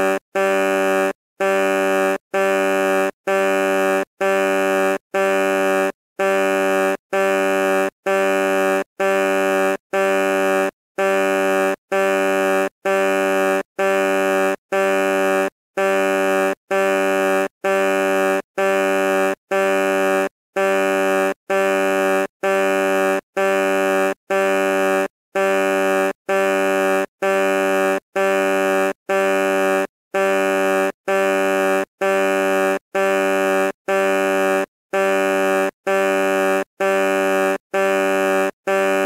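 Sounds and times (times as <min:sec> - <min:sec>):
truck horn honks: 0:00.0 - 0:39.0.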